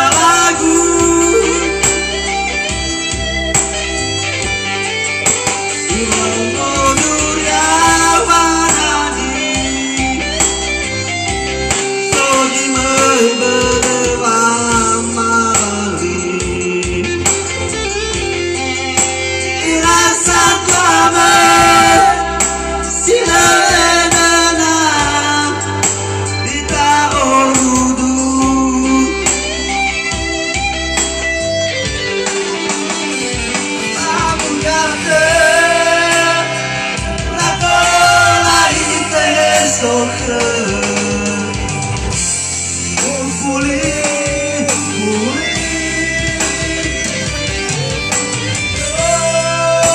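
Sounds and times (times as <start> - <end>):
person singing: 0.0 - 2.8, 5.7 - 18.2, 19.5 - 30.1, 33.2 - 42.2, 43.0 - 49.9
bass line: 0.0 - 49.9
guitar accompaniment: 0.0 - 49.9.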